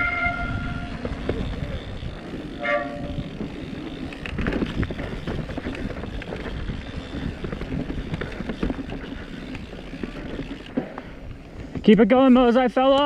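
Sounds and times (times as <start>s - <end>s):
bike tyres rumbling on dirt: 0.0s - 13.0s
bike rattling over rocks: 0.4s - 13.0s.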